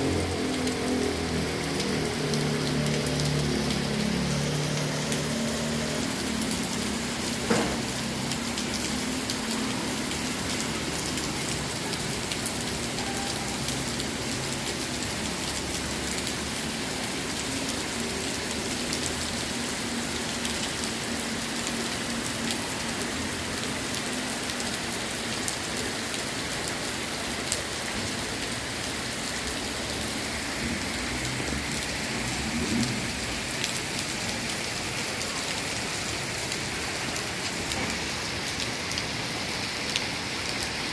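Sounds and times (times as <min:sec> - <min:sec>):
heavy rain: 0:00.0 - 0:40.9
raindrops tapping surfaces: 0:00.0 - 0:40.9.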